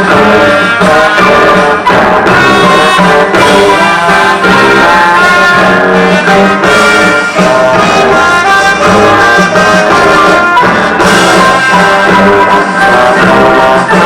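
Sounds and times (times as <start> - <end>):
loud brass music: 0.0 - 14.0.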